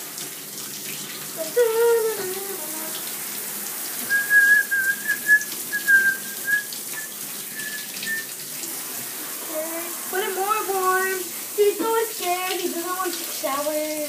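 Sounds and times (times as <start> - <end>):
tap running into bathtub: 0.0 - 14.0.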